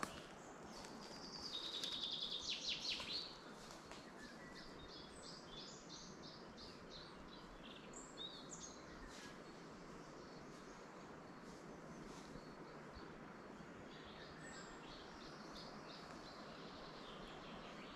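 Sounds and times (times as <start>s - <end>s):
songbird singing: 0.0s - 17.9s
steady background hiss: 0.0s - 17.9s.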